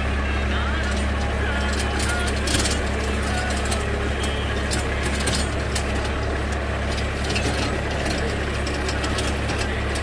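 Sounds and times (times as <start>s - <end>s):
tractor diesel engine running: 0.0s - 10.0s
sharp clicks and rattles: 0.5s - 10.0s.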